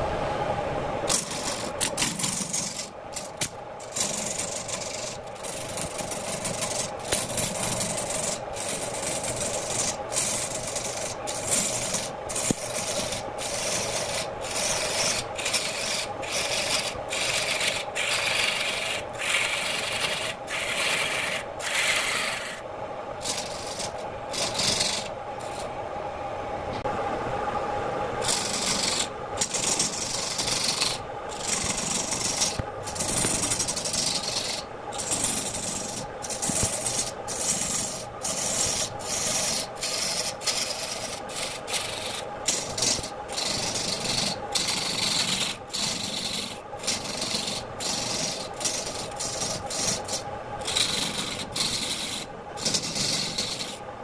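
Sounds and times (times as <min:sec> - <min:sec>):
gouge scraping wood on lathe: 0:01.1 - 0:22.6, 0:23.2 - 0:25.7, 0:28.2 - 0:53.8
lathe motor hum: 0:01.1 - 0:25.9, 0:28.2 - 0:54.0.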